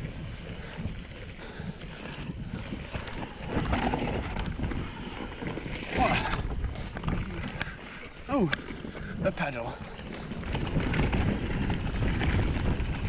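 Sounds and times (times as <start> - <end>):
wind on microphone: 0.0 - 7.9, 8.7 - 13.0
bike rattling over bumps: 0.0 - 13.0
bike tyres rolling over dirt: 0.0 - 13.0.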